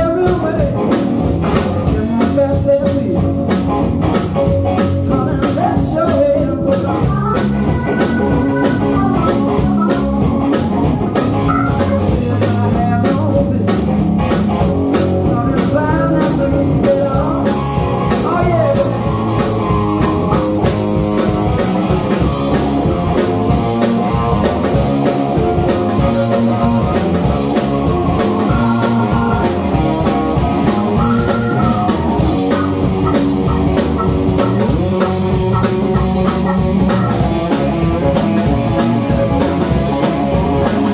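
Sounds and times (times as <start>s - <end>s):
drum kit: 0.0s - 40.9s
electric bass: 0.0s - 40.9s
electric guitar: 0.0s - 40.9s
keyboard: 0.0s - 40.9s.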